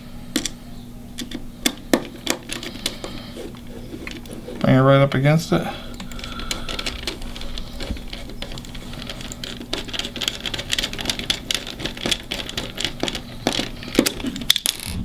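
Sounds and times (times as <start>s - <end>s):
screwdriver clicking and scraping: 1.2s - 4.8s, 5.9s - 15.0s.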